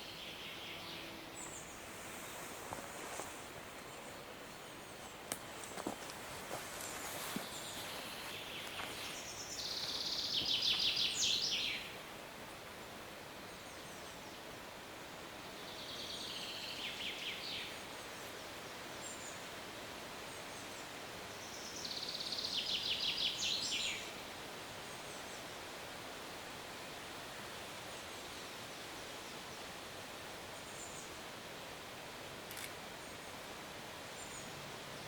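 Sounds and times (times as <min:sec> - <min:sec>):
faint forest ambience hiss: 0:00.0 - 0:35.0.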